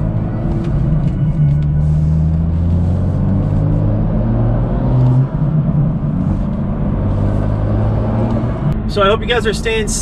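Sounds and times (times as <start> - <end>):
car engine from inside cabin: 0.0 - 10.0.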